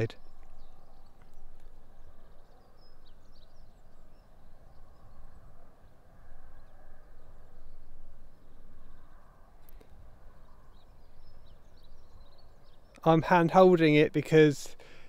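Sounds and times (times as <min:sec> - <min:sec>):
faint bird chirps: 0:00.0 - 0:13.2.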